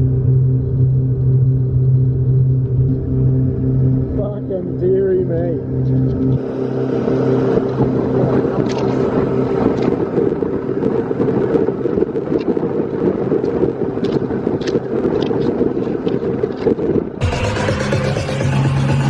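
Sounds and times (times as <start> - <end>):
wind buffeting microphone: 0.0 - 17.3
boat engine drone: 0.0 - 19.0.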